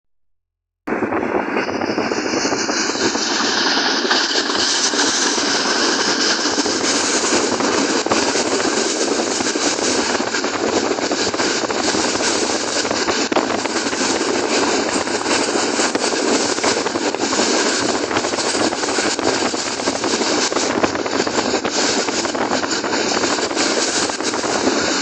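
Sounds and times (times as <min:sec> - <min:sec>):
train wheels on rails: 0:01.5 - 0:25.0.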